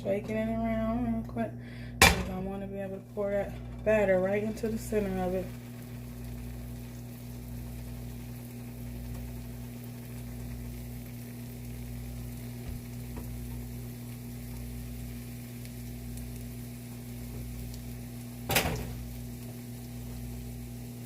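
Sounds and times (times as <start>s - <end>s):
low hum: 0.0s - 21.0s
batter sizzling in a frying pan: 4.0s - 21.0s.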